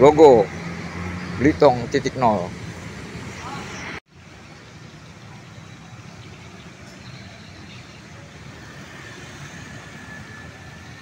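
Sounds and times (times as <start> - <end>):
motorbikes passing: 0.0 - 11.0.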